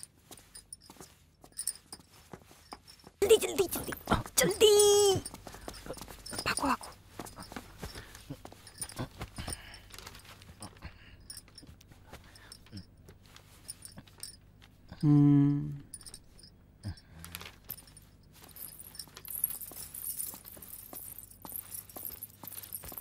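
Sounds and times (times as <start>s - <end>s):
jewellery jingling: 0.0s - 14.8s, 15.8s - 23.0s.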